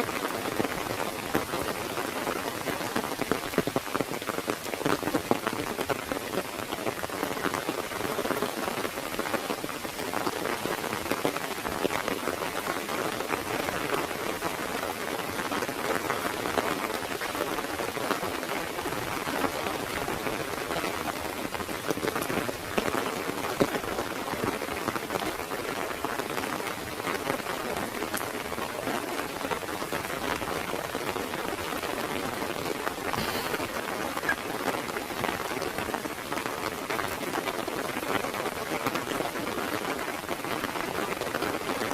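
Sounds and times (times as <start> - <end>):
heavy rain on umbrella: 0.0 - 41.9.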